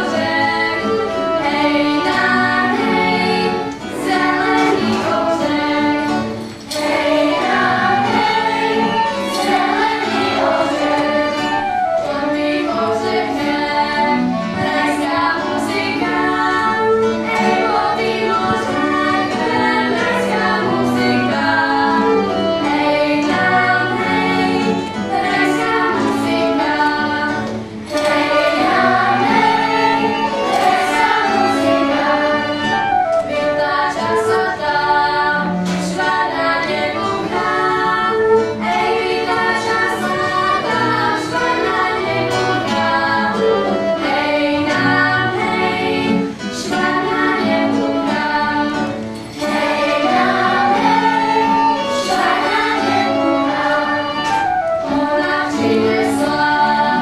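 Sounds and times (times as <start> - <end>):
children's choir singing: 0.0 - 57.0
small string and flute ensemble: 0.0 - 57.0.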